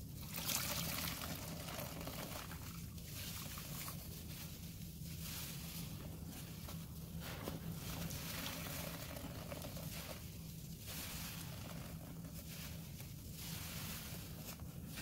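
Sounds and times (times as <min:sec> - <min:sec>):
foam fizzing crackle: 0:00.3 - 0:15.0
sponge squelching: 0:00.4 - 0:15.0.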